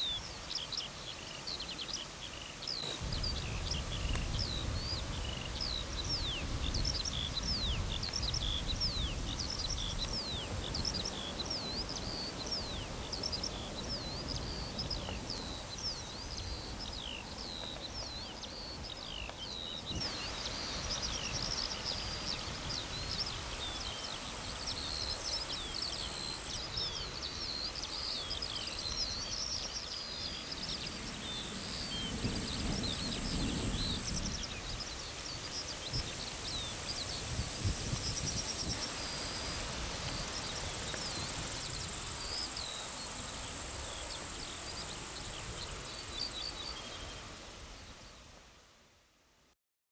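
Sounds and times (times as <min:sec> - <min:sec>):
small birds chirping and singing: 0:00.0 - 0:47.3.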